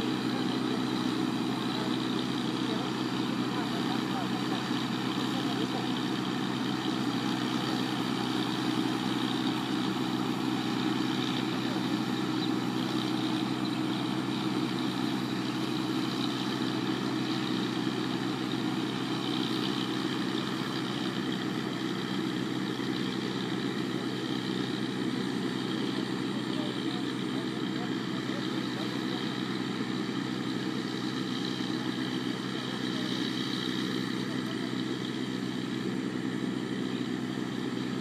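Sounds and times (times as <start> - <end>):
harvester engine droning: 0.0 - 38.0.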